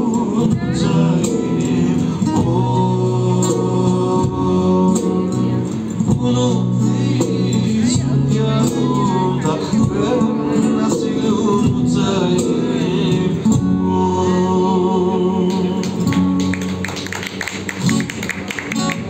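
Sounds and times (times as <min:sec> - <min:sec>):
man singing: 0:00.0 - 0:16.3
amplified acoustic guitar: 0:00.0 - 0:19.0.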